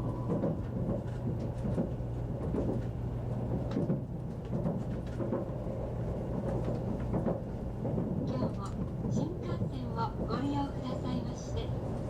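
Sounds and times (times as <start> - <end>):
train interior hum and rumble: 0.0 - 12.0.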